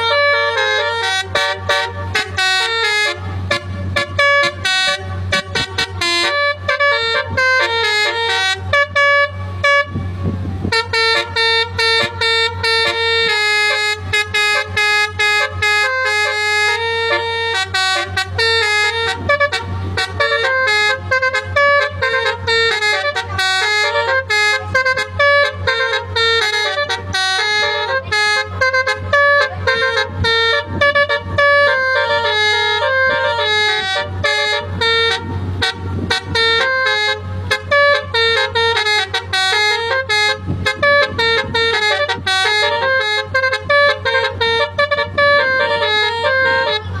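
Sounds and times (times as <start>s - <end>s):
bus horn playing a fast melody: 0.0s - 47.0s.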